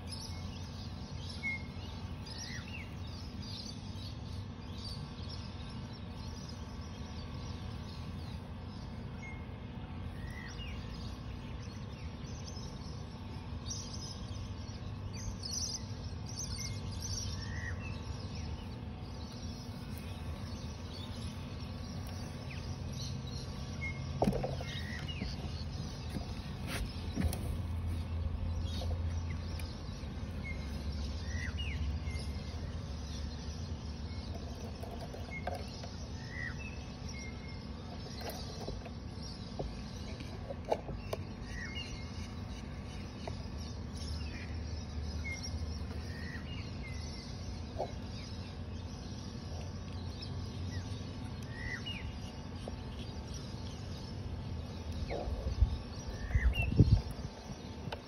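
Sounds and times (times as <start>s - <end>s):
birds chirping: 0.0s - 58.0s
steady low rumble: 0.0s - 58.0s.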